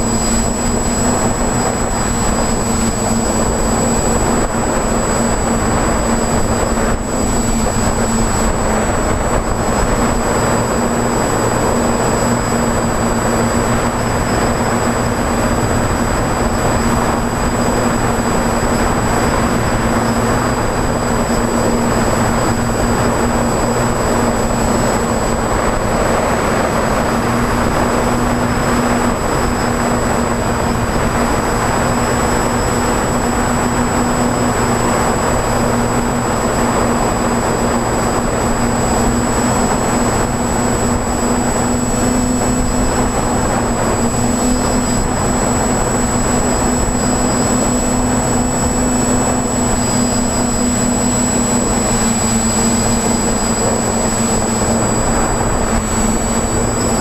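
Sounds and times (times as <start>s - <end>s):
drone motors humming and whining: 0.0s - 57.0s.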